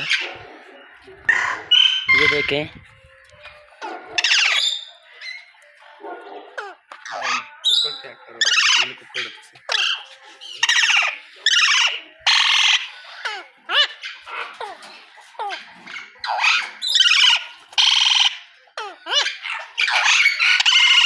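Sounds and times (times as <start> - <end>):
parrots squawking: 0.0 - 2.8, 3.8 - 5.6, 6.4 - 21.0.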